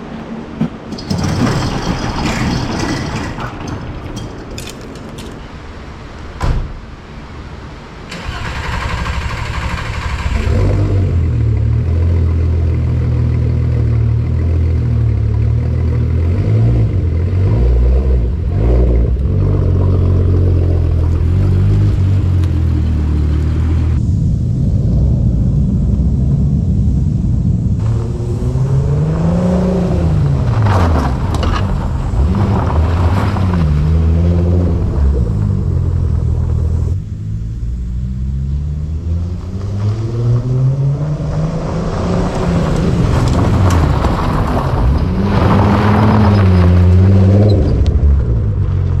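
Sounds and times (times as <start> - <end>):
low road rumble: 0.0 - 49.0
car engine accelerating: 8.1 - 49.0.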